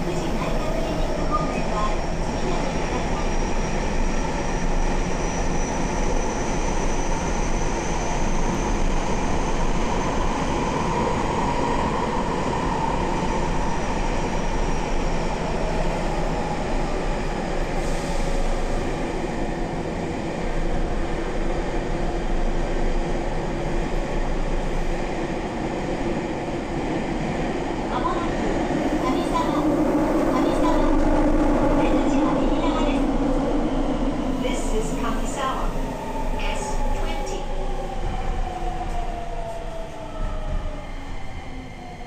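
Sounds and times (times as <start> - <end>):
train wheels rumbling: 0.0 - 42.0.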